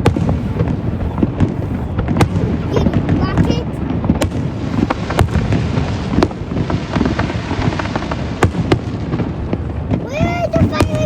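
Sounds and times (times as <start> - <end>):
firework shells cracking: 0.0 - 11.0
fireworks booming: 0.0 - 11.0.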